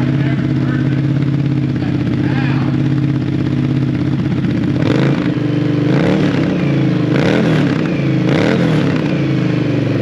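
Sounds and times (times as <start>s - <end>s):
engine revving: 0.0s - 10.0s.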